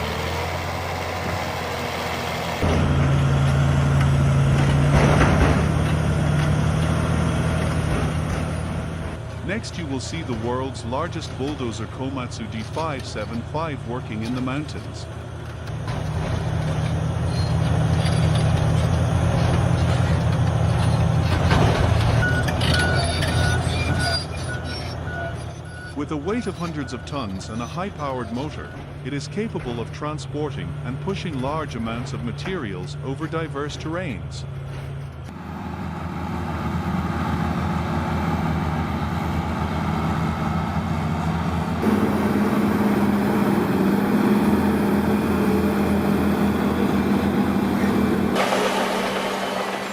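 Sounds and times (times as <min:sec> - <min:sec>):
bulldozer diesel engine: 0:00.0 - 0:49.9.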